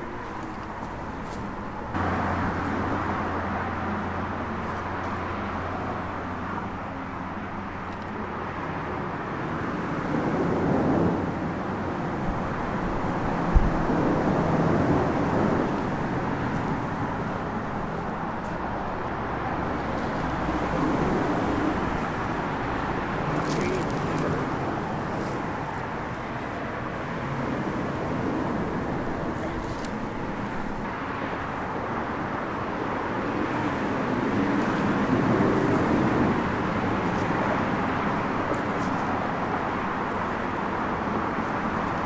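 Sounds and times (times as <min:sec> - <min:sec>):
highway traffic noise: 0:00.0 - 0:42.0.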